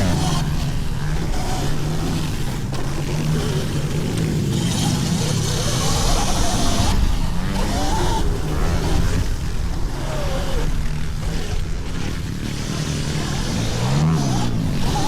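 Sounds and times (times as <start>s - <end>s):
pit bikes revving: 0.0s - 15.0s.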